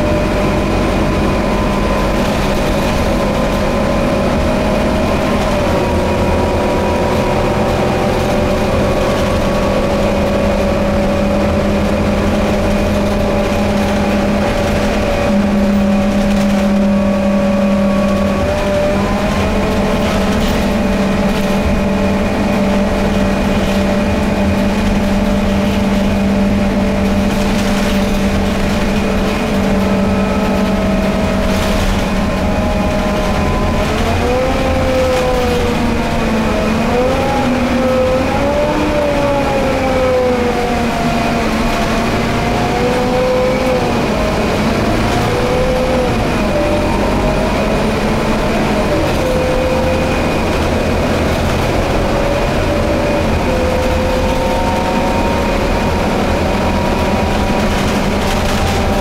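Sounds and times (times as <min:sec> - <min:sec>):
bus diesel engine drone: 0:00.0 - 0:59.0
road rumble: 0:00.0 - 0:59.0.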